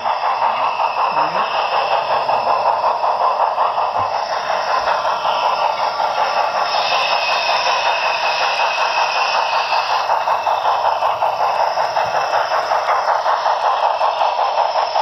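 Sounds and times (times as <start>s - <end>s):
model steam locomotive chuffing: 0.0s - 15.0s
steady steam hiss: 0.0s - 15.0s.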